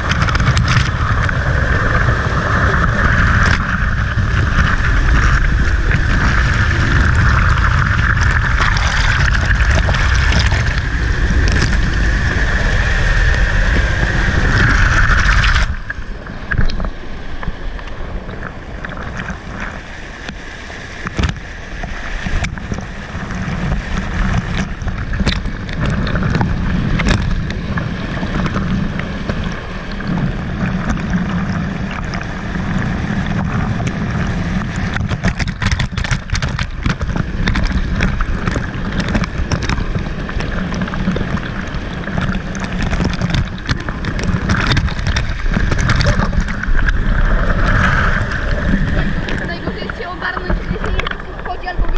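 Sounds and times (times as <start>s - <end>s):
cascade splashing: 0.0s - 51.9s
water rushing over camera: 0.0s - 51.9s.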